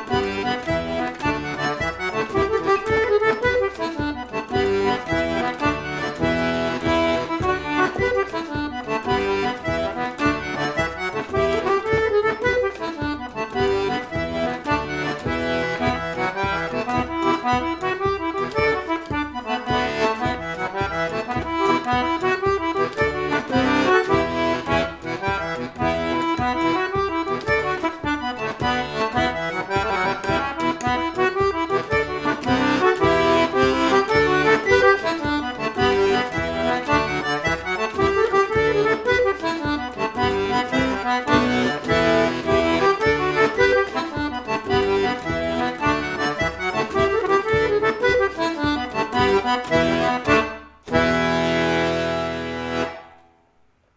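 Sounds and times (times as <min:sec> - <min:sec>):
button accordion playing a jig: 0:00.0 - 0:53.3.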